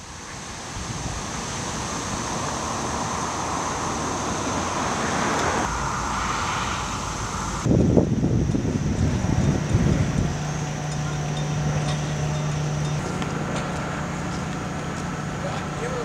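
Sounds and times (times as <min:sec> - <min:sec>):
constant high-pitched tone: 0:00.0 - 0:16.0
road traffic noise: 0:00.0 - 0:16.0.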